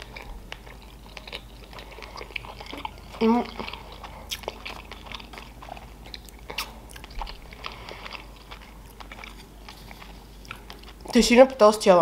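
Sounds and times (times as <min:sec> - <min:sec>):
person chewing food: 0:00.0 - 0:11.2.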